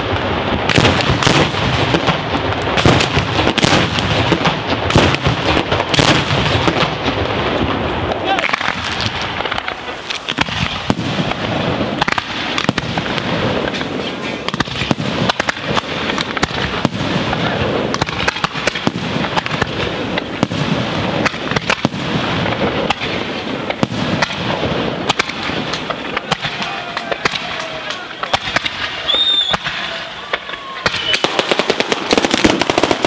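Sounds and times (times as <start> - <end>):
fireworks crackling and banging: 0.0 - 33.0.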